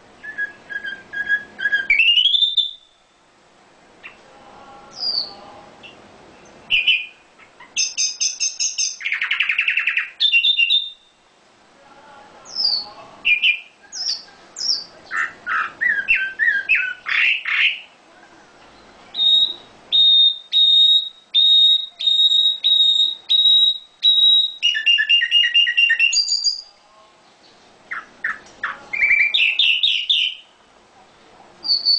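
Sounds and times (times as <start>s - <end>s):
songbird singing chirps and trills: 0.0s - 31.9s.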